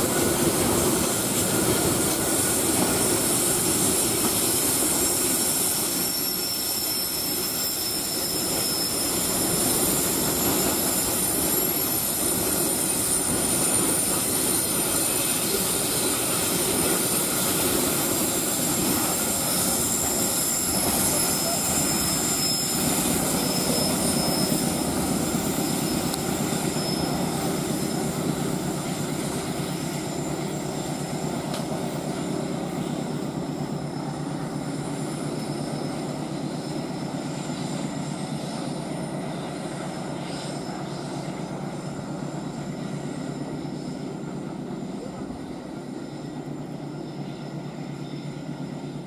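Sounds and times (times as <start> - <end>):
freight train passing: 0.0 - 49.0.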